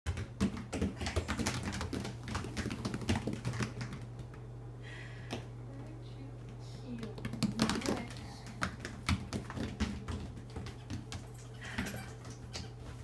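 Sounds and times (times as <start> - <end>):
goat hooves tapping on tile: 0.1 - 4.4, 6.5 - 13.0.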